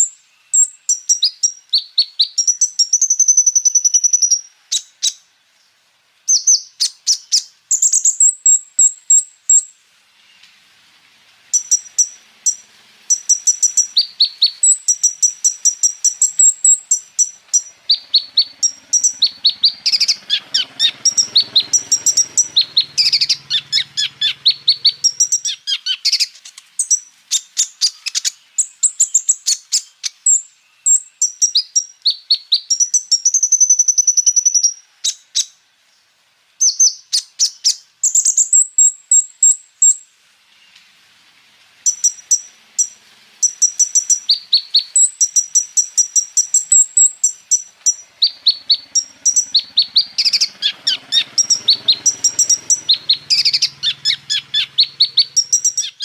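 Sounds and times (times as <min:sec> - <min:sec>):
songbird singing rapid trills: 0:00.0 - 0:10.5, 0:11.5 - 0:36.0, 0:36.6 - 0:40.8, 0:41.8 - 0:56.0.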